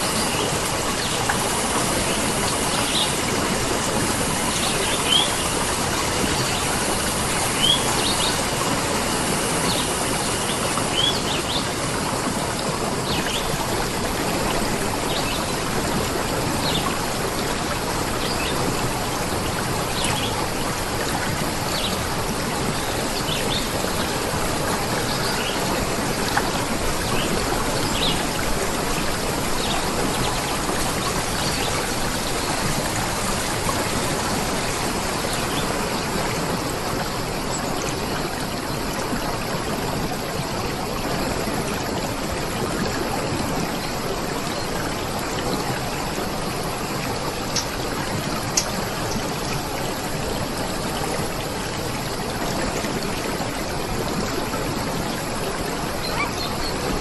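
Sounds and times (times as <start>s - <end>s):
stream of water flowing: 0.0s - 57.0s.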